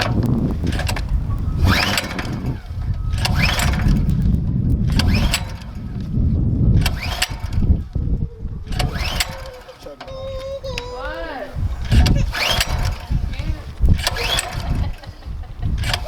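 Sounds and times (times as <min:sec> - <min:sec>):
small engine turning over: 0:00.0 - 0:06.1, 0:06.7 - 0:08.1, 0:08.7 - 0:16.0
recoil starter rope pulls: 0:00.0 - 0:16.0.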